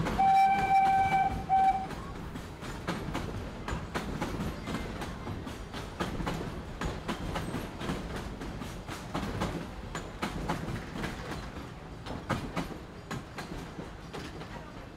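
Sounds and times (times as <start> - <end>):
train rumbling: 0.0 - 14.9
wheels clacking over rail joints: 0.0 - 14.9.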